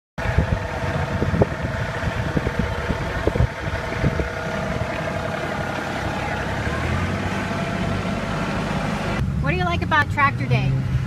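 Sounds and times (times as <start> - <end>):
tractor engine idling: 0.2 - 10.3.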